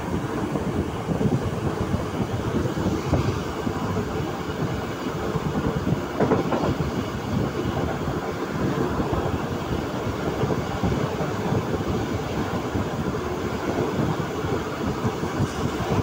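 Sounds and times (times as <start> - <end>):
rushing air: 0.0 - 16.0
train wheel and rail noise: 0.0 - 16.0.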